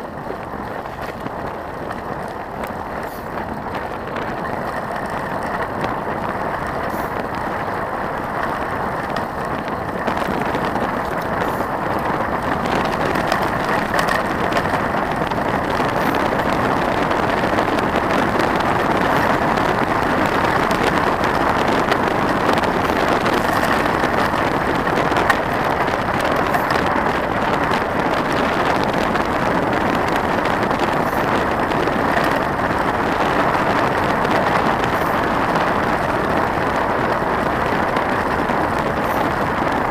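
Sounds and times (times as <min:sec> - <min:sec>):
bike tyres rolling on gravel: 0:00.0 - 0:39.9
wind on microphone: 0:00.0 - 0:39.9.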